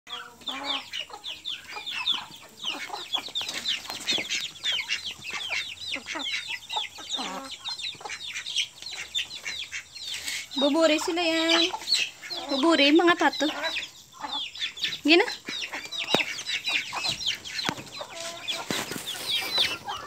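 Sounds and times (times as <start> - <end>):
chicks peeping: 0.1 - 20.0
ducks calling: 0.1 - 20.0.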